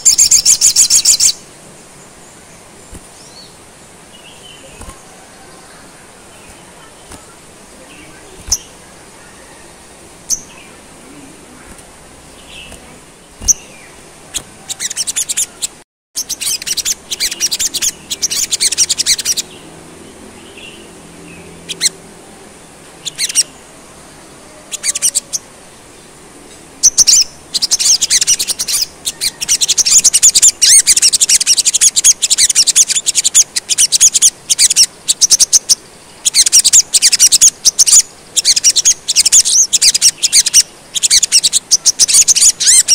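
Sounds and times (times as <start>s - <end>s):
sunbird singing: 0.0s - 42.9s.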